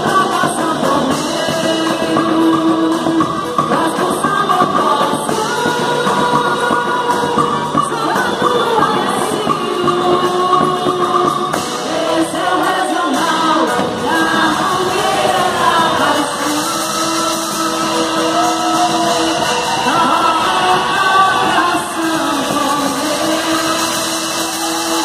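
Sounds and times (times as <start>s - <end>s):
person singing over a band: 0.0s - 25.0s.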